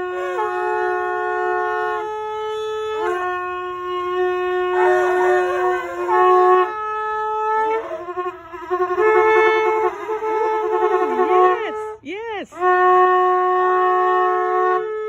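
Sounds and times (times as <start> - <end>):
shofar blasts: 0.0 - 15.0.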